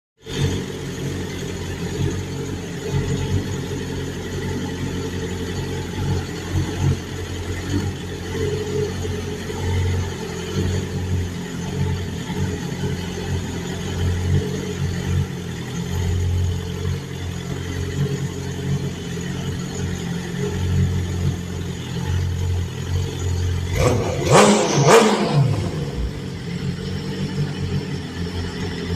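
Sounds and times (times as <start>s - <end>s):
motorcycle engine idling and revving: 0.2s - 28.9s.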